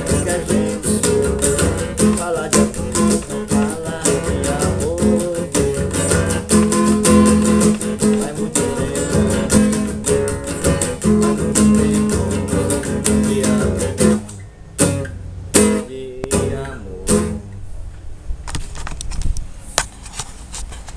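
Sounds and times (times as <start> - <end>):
acoustic guitar strumming: 0.0 - 17.6.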